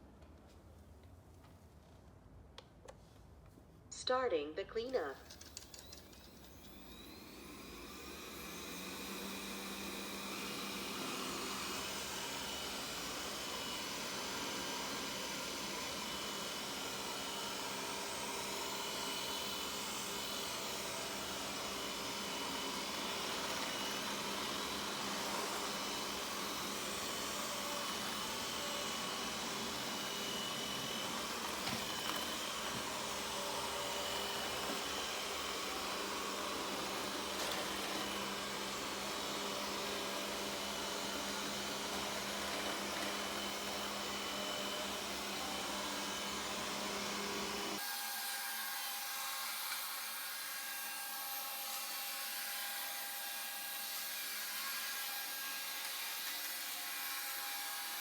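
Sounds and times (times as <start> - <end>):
robot vacuum cleaner whirring: 5.2 - 58.0.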